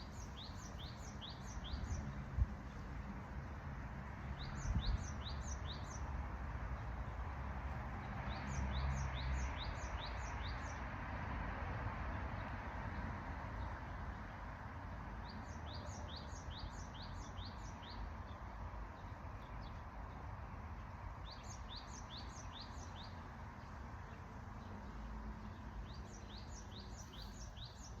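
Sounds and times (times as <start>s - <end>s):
songbird chirping: 0.0s - 3.1s, 4.2s - 11.0s, 15.0s - 28.0s.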